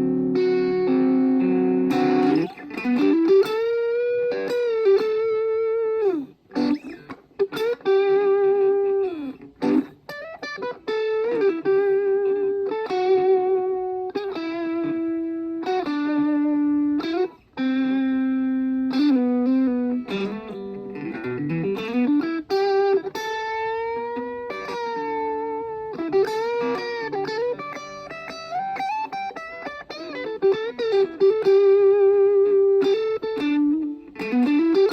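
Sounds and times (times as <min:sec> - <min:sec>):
electric guitar melody: 0:00.0 - 0:34.9.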